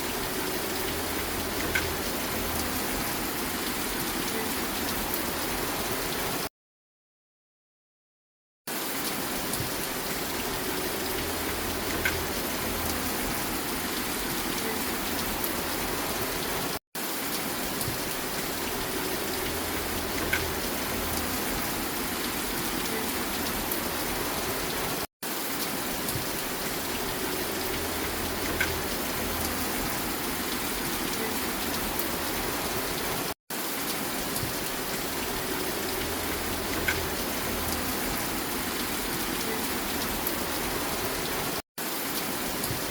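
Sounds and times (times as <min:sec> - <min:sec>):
steady rain falling: 0:00.0 - 0:06.5, 0:08.7 - 0:42.9
louder raindrop: 0:00.1 - 0:06.4, 0:08.7 - 0:42.9.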